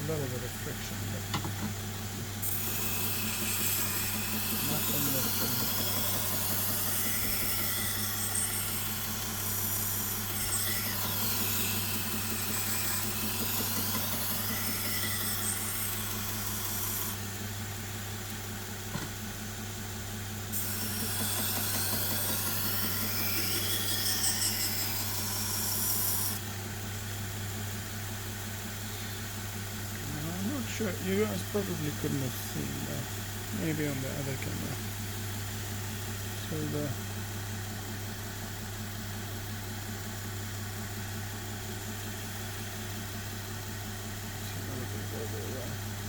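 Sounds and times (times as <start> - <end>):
belt grinder motor running: 0.0 - 19.1, 20.5 - 26.9, 27.6 - 39.0.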